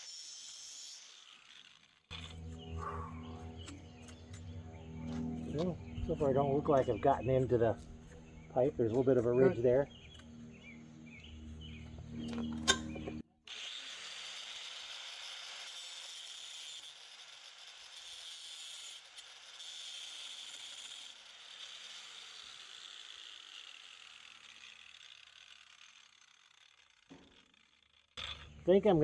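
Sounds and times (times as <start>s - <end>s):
angle grinder grinding metal: 0.0s - 29.0s.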